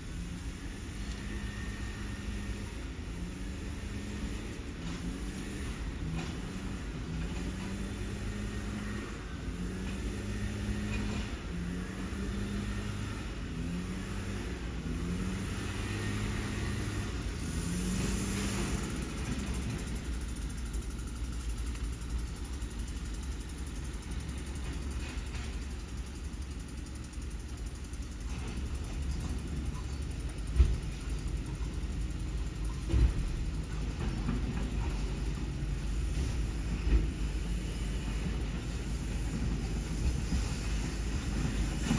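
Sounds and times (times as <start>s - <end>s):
truck diesel engine running: 0.0s - 41.9s.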